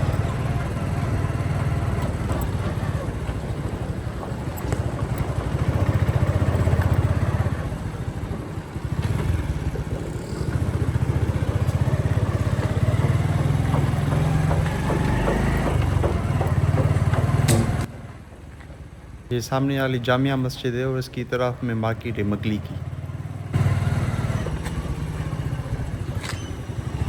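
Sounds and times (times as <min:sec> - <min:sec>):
motorcycle engine running: 0:00.0 - 0:19.1, 0:22.0 - 0:27.0.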